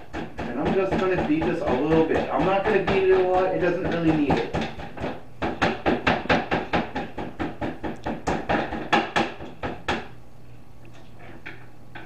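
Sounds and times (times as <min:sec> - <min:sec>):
mallet pounding steak: 0:00.0 - 0:10.2.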